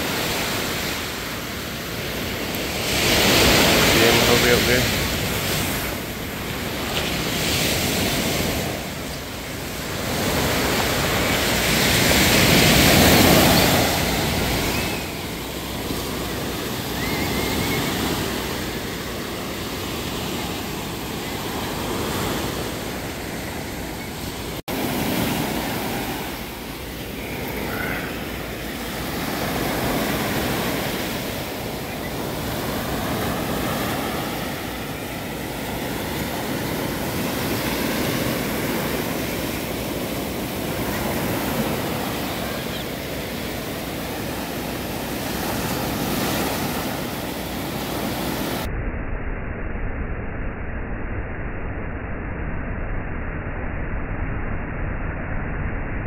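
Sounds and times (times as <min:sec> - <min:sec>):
waves breaking on beach: 0:00.0 - 0:48.7.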